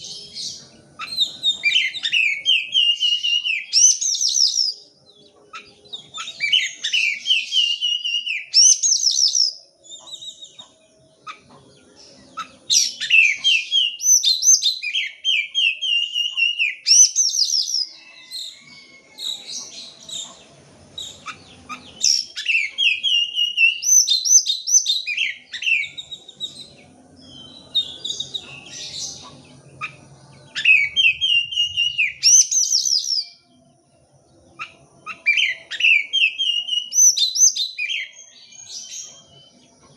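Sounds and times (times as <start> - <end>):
magpie-robin singing whistled phrases: 0.0 - 11.5, 12.2 - 20.4, 21.0 - 33.4, 34.6 - 39.9.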